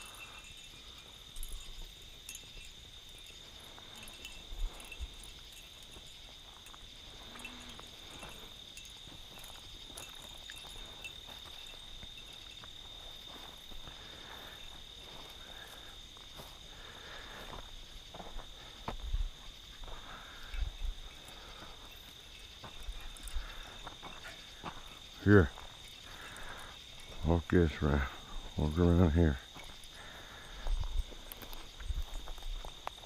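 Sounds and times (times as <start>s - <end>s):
crickets trilling: 0.0s - 33.0s
footsteps through dry grass: 0.0s - 33.0s.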